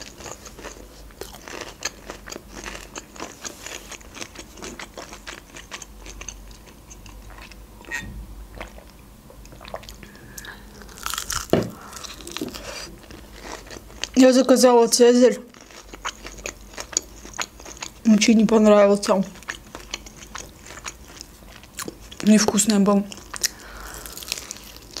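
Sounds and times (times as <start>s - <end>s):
crunching and chewing fried chicken: 0.0s - 8.0s, 8.6s - 14.5s, 15.4s - 18.6s, 19.2s - 25.0s.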